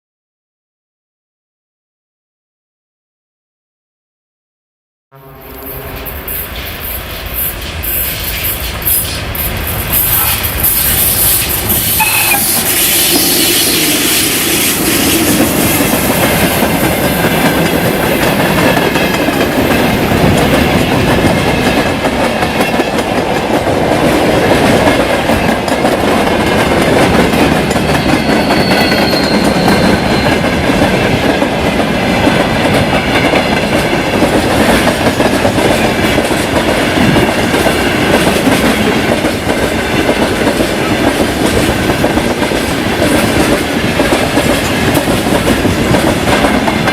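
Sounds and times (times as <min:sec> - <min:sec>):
train wheels clattering over rails: 0:06.2 - 0:46.9.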